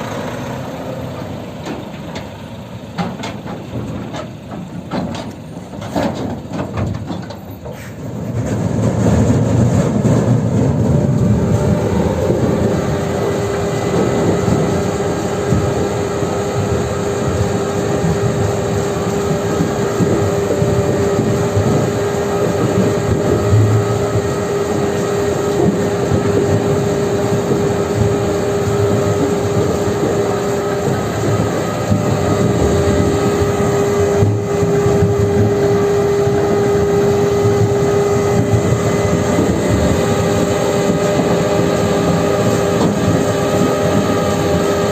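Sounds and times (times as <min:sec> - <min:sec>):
heavy diesel engine droning: 0:00.0 - 0:44.9
steady whine: 0:08.9 - 0:44.9.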